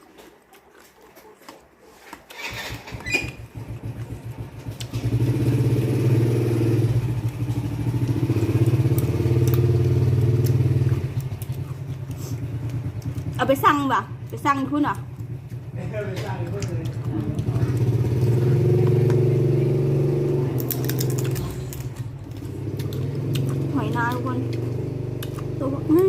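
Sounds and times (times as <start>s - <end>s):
small motorcycle engine running: 2.3s - 26.0s.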